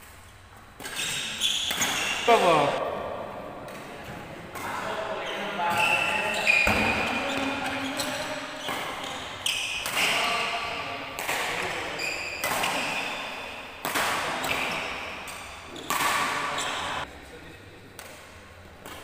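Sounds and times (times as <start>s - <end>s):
rackets hitting shuttlecock: 0.8s - 4.9s, 5.7s - 17.1s, 18.0s - 19.0s.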